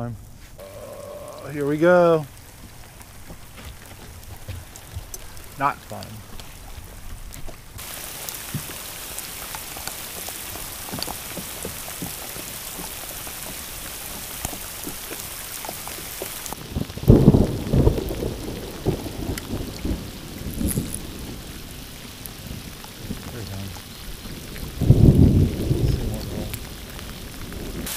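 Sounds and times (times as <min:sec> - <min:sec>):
heavy rain falling on water: 0:00.0 - 0:27.9
low thunder rumbling: 0:00.6 - 0:27.9.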